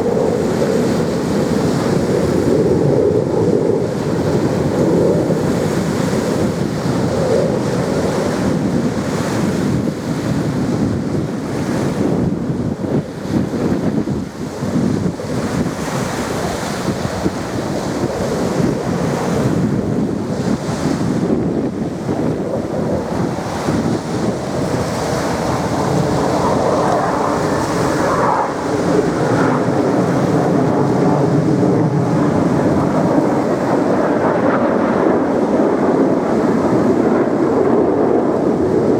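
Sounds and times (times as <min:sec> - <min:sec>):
jet engines rushing: 0:00.0 - 0:38.9
wind buffeting microphone: 0:00.0 - 0:38.9.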